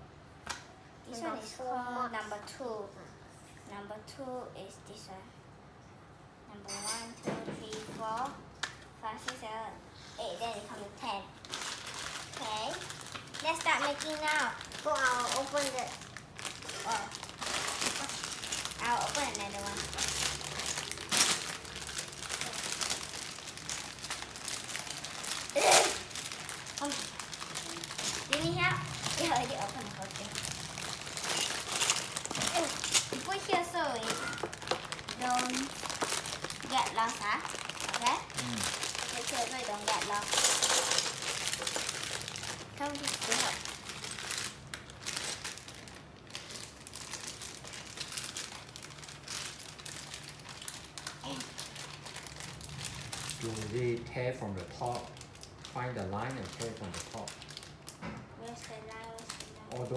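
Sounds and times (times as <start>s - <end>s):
plastic packaging crinkling: 10.4s - 59.9s.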